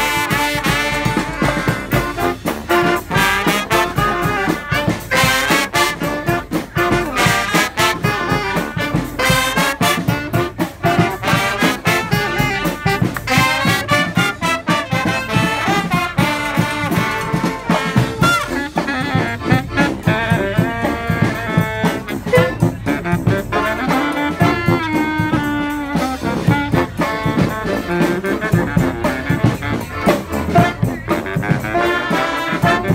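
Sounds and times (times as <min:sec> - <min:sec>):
street brass band playing: 0:00.0 - 0:32.9.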